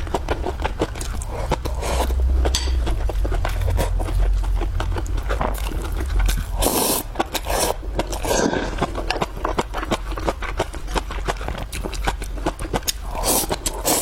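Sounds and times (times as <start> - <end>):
person chewing fried food: 0.0 - 14.0.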